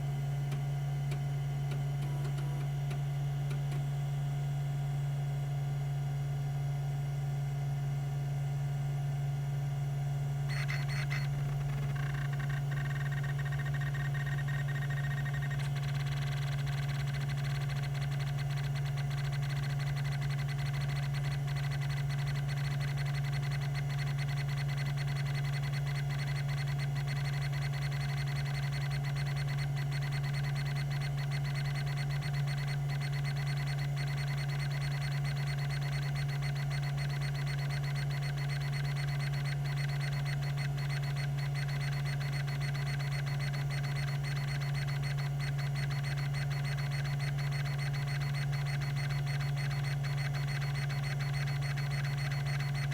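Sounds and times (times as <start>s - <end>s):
hard drive spinning: 0.0s - 4.4s, 10.4s - 52.9s.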